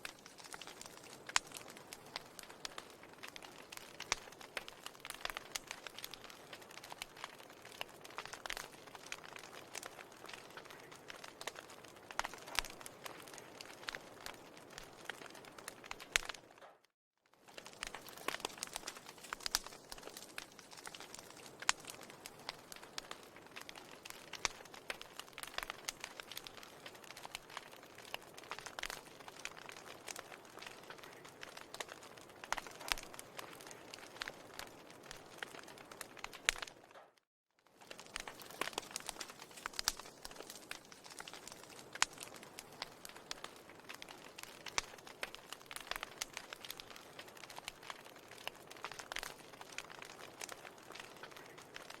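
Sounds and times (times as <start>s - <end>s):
fire crackling with pops: 0.0s - 52.0s.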